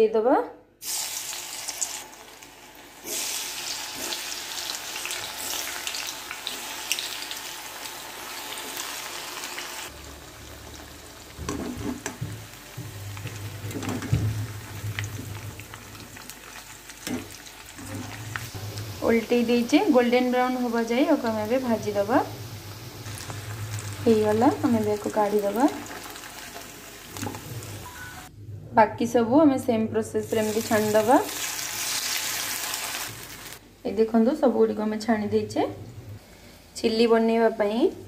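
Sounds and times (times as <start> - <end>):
food deep-frying in oil: 0.8 - 28.3, 30.3 - 33.6.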